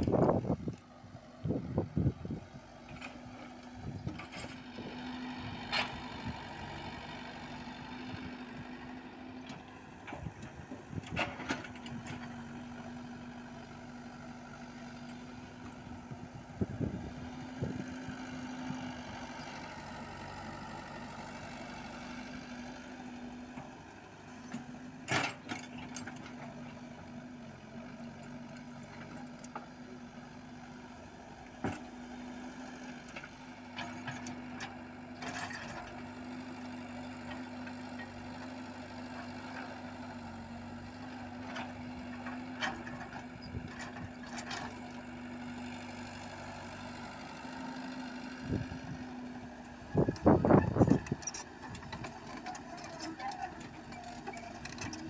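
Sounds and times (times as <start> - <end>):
excavator engine and hydraulics: 0.0 - 55.0.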